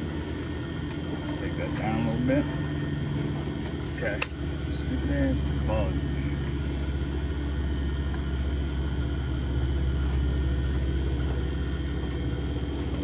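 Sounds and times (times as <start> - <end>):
vacuum pump motor hum: 0.0 - 13.0.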